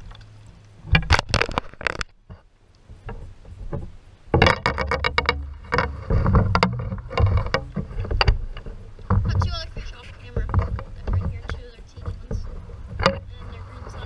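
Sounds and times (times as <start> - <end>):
gear knocking and scraping on kayak: 0.0 - 14.0.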